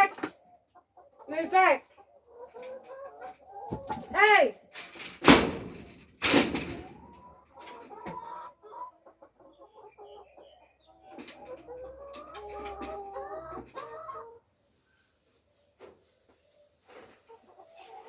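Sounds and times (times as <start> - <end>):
hens clucking and squawking: 0.0 - 4.8, 5.7 - 18.0.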